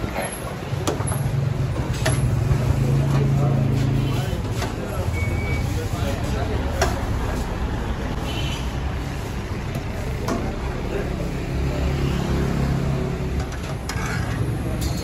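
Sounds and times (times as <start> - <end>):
busy kitchen rumble: 0.0 - 15.0.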